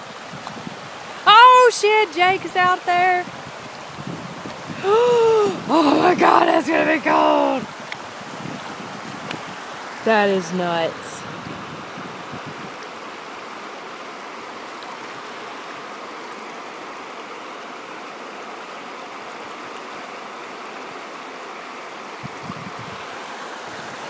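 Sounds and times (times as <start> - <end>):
water pouring over a levee: 0.0 - 24.0.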